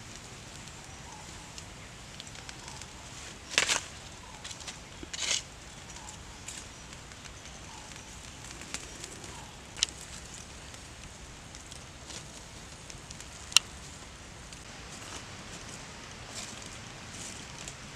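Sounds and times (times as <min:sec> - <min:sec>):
charcoal fire crackling: 0:00.0 - 0:17.9
fire pops: 0:00.0 - 0:17.9
low hiss: 0:00.0 - 0:17.9.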